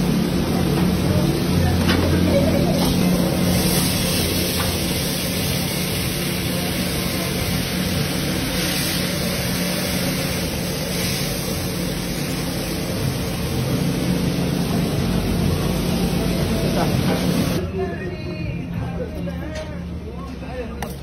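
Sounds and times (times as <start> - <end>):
oil sizzling: 0.0 - 17.6
gas burner roaring: 0.0 - 17.9.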